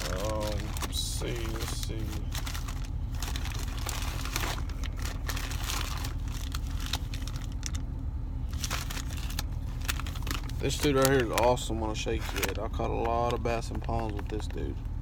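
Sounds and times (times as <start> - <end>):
plastic packages crinkling: 0.0 - 14.7
steady low hum: 0.0 - 15.0.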